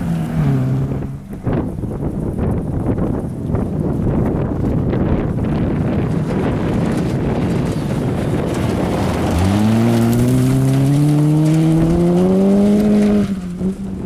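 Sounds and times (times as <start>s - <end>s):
rally car engine at high revs: 0.0s - 3.7s, 5.4s - 14.0s.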